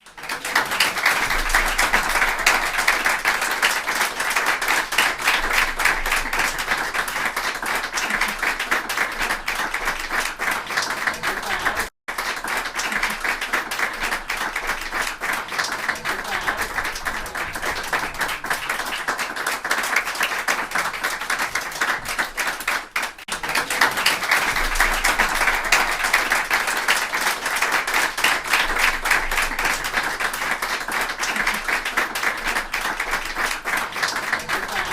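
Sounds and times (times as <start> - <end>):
people applauding: 0.0 - 34.9.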